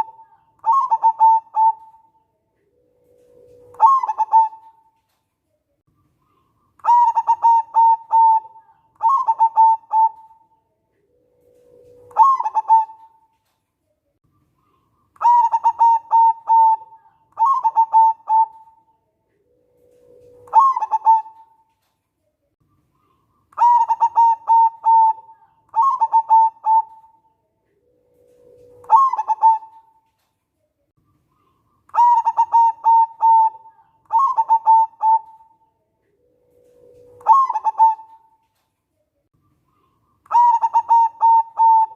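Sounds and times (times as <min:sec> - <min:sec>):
dove cooing: 0:00.0 - 0:05.0, 0:06.3 - 0:13.3, 0:14.6 - 0:21.8, 0:23.0 - 0:30.2, 0:31.3 - 0:38.6, 0:39.7 - 0:41.9.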